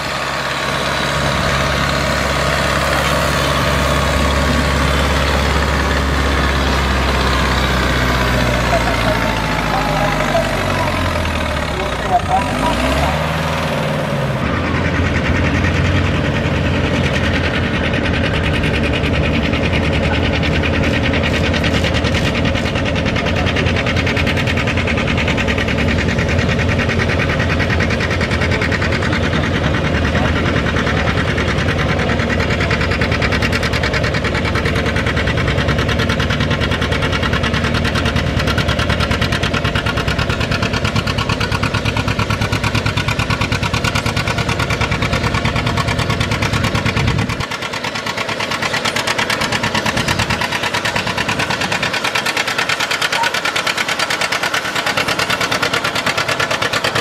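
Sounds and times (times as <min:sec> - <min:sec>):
tractor engine working hard: 0:00.0 - 0:57.0.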